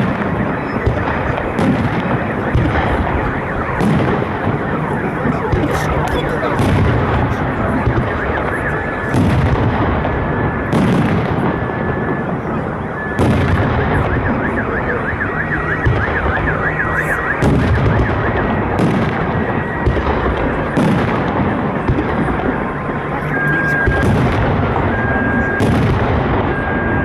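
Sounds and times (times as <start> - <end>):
firework booms with rumbling tail: 0.0 - 23.1, 23.8 - 27.0
car alarm warbling: 0.0 - 27.0.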